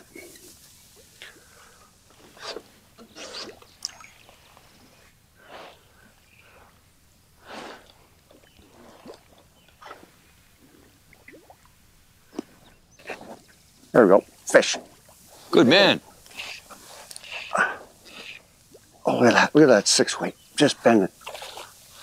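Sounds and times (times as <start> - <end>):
faint water splashes: 0.0 - 22.0
fishing line on water: 0.0 - 22.0.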